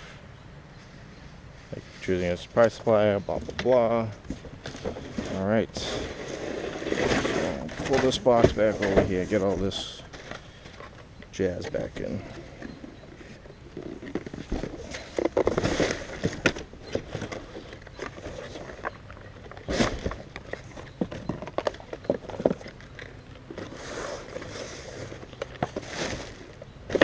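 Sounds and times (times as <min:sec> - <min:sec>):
cardboard box rustling and scraping: 0:04.3 - 0:10.9, 0:11.7 - 0:27.0.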